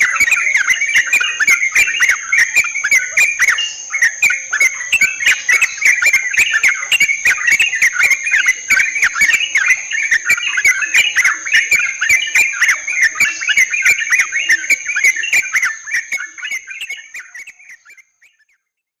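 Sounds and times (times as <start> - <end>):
birds chattering calls: 0.0 - 18.5.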